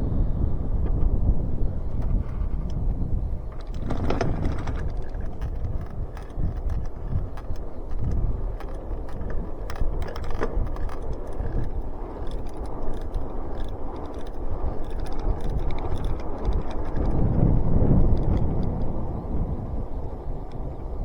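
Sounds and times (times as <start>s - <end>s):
wind and tyre rumble: 0.0s - 21.0s
bicycle drivetrain clicking: 0.9s - 21.0s.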